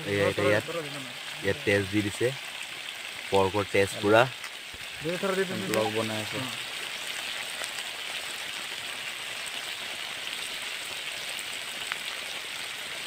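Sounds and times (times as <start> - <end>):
pork sizzling in a pot: 0.0 - 13.0.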